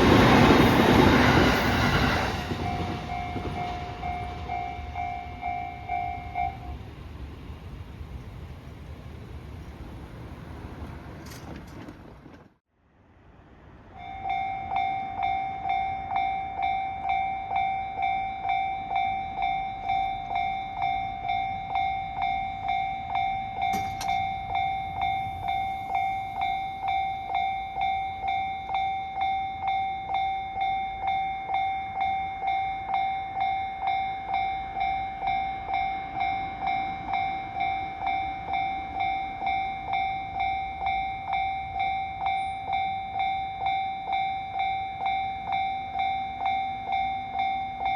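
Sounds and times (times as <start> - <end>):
level crossing alarm bell: 0.0 - 6.8, 14.0 - 47.9.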